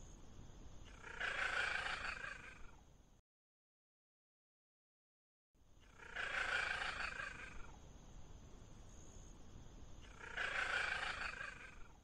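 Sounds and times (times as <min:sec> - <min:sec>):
faint steady hiss: 0:00.0 - 0:03.2, 0:05.6 - 0:12.0.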